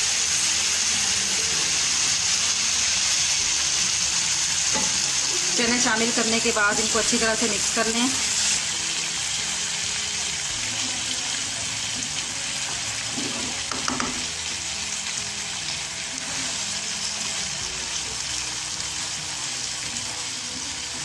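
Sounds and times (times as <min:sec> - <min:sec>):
chickpeas sizzling in oil: 0:00.0 - 0:21.0.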